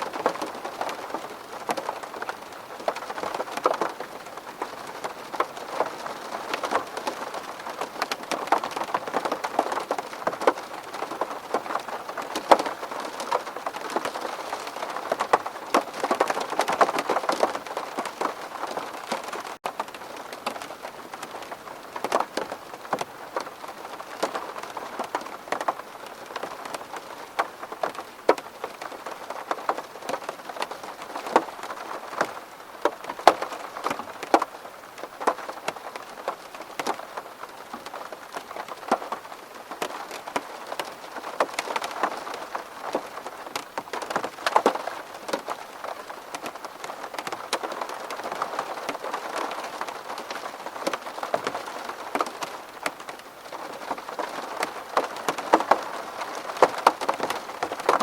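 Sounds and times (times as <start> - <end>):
rain pattering on window glass: 0.0 - 58.0.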